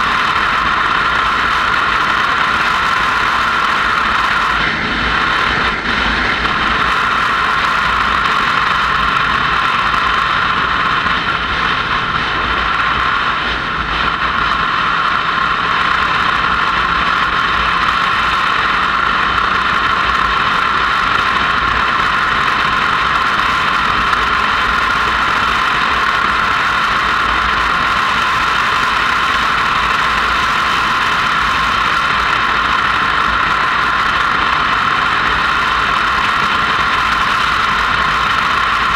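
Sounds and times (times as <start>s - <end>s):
motorcycle engine running: 0.0s - 38.9s
wind rush over microphone: 0.0s - 38.9s.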